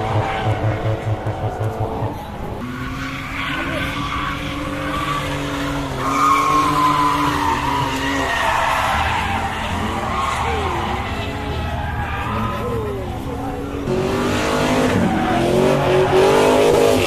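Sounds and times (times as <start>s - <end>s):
car engines revving: 0.0s - 17.0s
tyres squealing: 0.0s - 17.0s.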